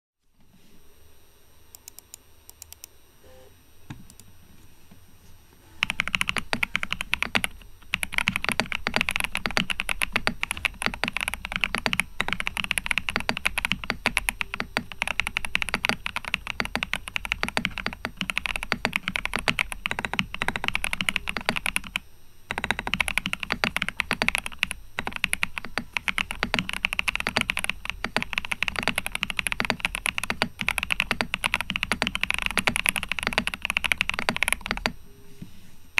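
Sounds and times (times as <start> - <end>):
mechanical keyboard typing: 5.8 - 35.0.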